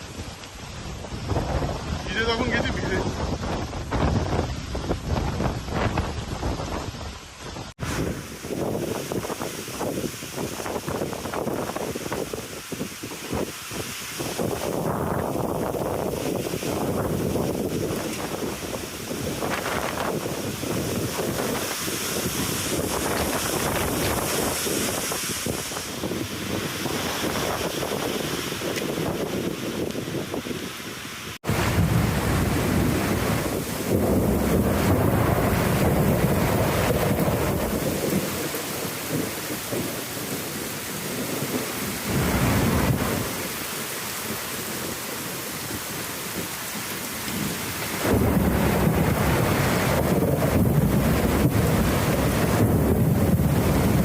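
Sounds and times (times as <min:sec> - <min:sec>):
thunder rumbling: 0:00.0 - 0:13.5, 0:14.3 - 0:30.4, 0:31.4 - 0:54.0
heavy rain pouring: 0:00.0 - 0:54.0
wind buffeting microphone: 0:00.0 - 0:54.0.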